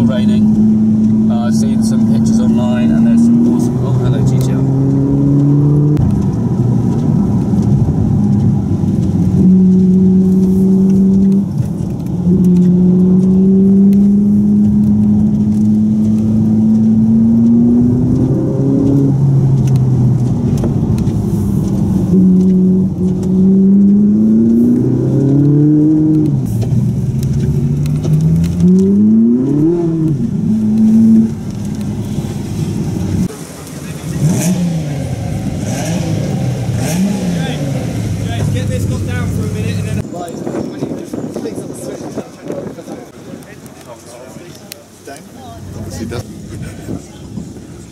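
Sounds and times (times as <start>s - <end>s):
car engine running: 0.0s - 40.0s.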